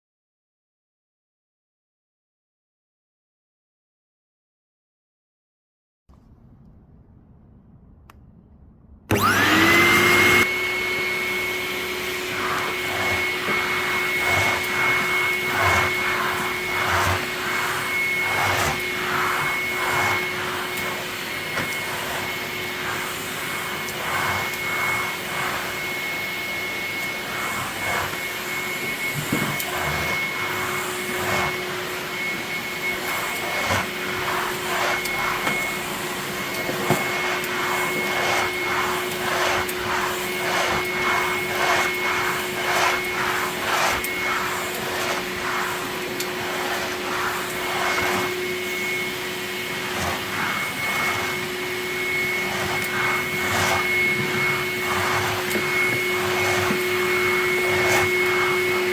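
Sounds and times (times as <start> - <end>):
vacuum cleaner motor whining: 9.1 - 58.9.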